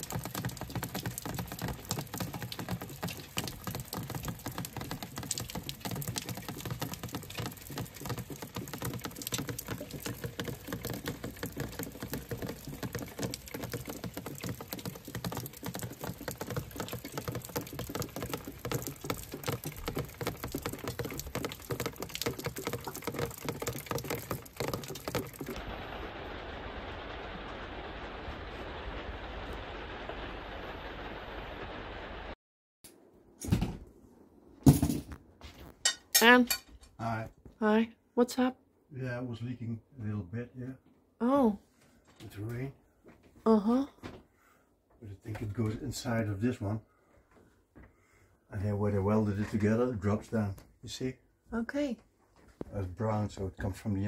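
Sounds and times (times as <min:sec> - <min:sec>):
rain on concrete patio: 0:00.0 - 0:32.4, 0:34.6 - 0:37.9, 0:38.8 - 0:47.0, 0:48.4 - 0:54.0.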